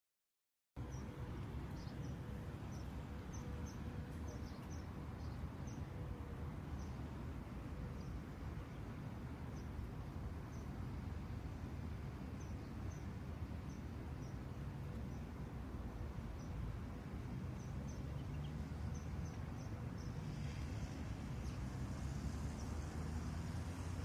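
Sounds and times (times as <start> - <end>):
low outdoor rumble: 0.8 - 24.0.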